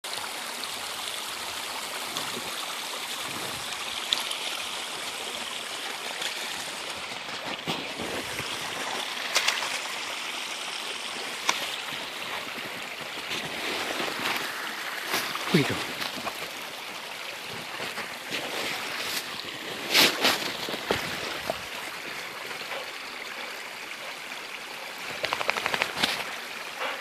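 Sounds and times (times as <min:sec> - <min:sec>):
creek water running: 0:00.0 - 0:27.0.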